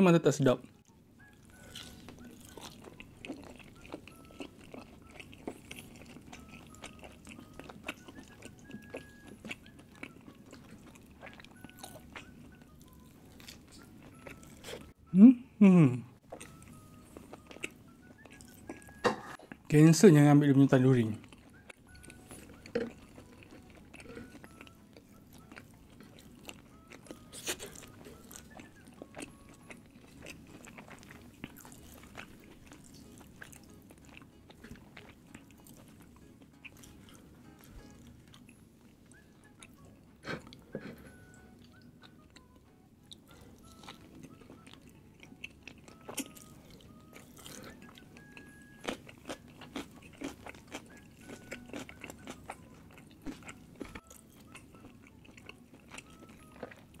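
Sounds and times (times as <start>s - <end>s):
person chewing food: 0.7s - 15.0s, 16.2s - 19.7s, 21.2s - 57.0s.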